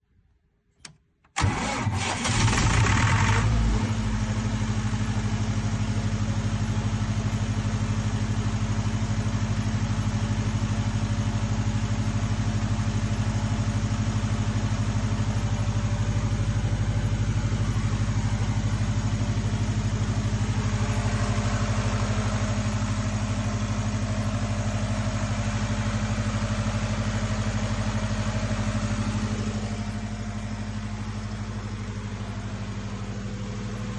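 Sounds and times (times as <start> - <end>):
diesel generator engine running: 1.4 - 33.9.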